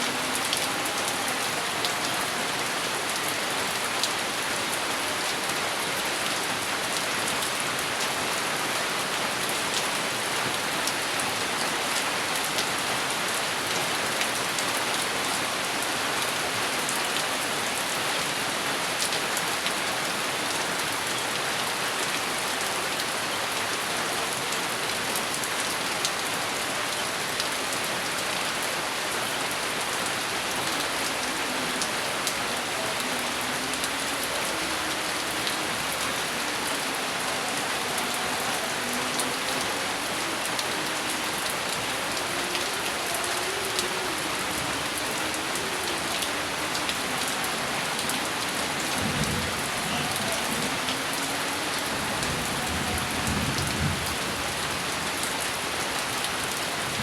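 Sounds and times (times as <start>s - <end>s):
heavy rain on hard surface: 0.0s - 57.0s.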